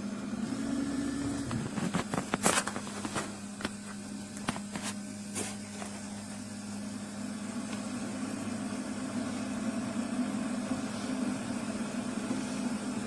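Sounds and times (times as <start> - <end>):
coffee maker pump hum: 0.0 - 13.0.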